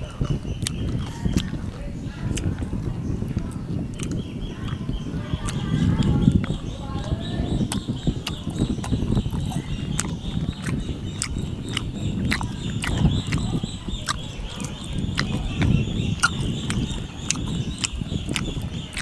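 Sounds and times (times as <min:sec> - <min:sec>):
person chewing crunchy food: 0:00.0 - 0:01.7, 0:03.3 - 0:19.0.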